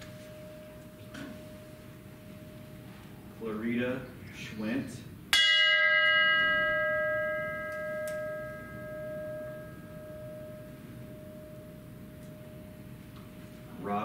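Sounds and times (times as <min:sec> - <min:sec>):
struck bell ringing: 0:00.0 - 0:03.0, 0:05.3 - 0:14.0.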